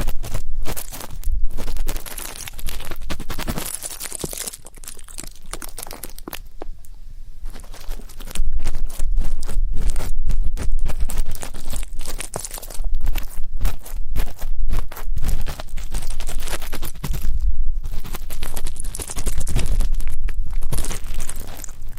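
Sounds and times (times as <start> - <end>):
ear pick scratching microphone: 0.0 - 21.9.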